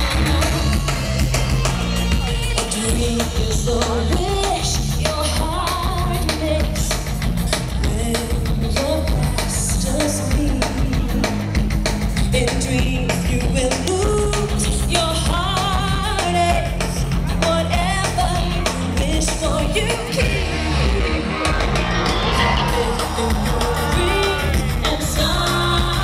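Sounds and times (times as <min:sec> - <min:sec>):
person singing: 0:00.0 - 0:11.5, 0:12.2 - 0:26.0
drums: 0:00.0 - 0:26.0
steady bass: 0:00.0 - 0:26.0.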